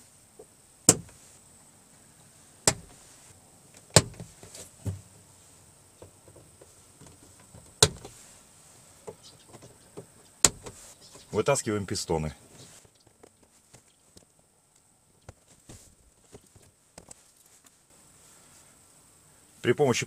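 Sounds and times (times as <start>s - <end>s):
faint ticks and scrapes: 1.1s - 11.8s, 12.4s - 18.8s.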